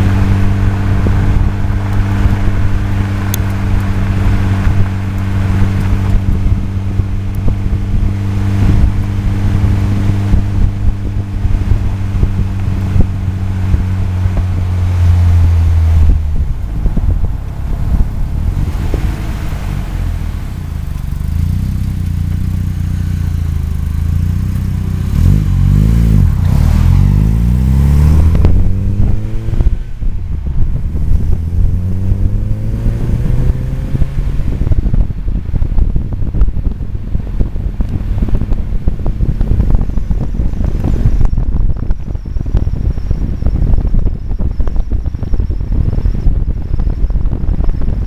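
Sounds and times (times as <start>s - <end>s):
car engine accelerating: 0.0s - 48.0s
road and wind noise: 0.0s - 48.0s.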